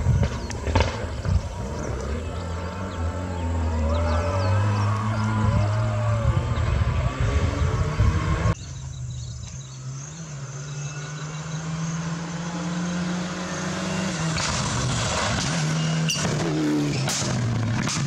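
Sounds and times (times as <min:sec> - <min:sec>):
rally car engine: 0:00.0 - 0:18.0.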